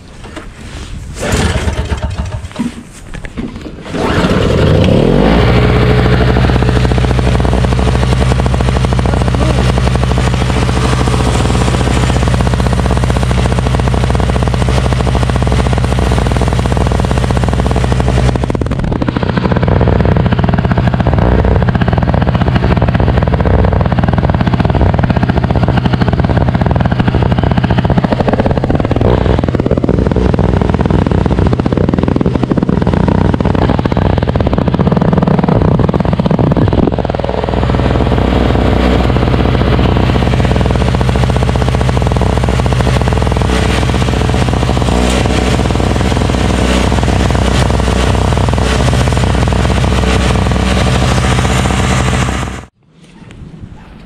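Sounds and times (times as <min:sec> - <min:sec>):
snowblower engine running: 0:00.1 - 0:52.8
rattle: 0:01.2 - 0:05.0, 0:05.7 - 0:52.7.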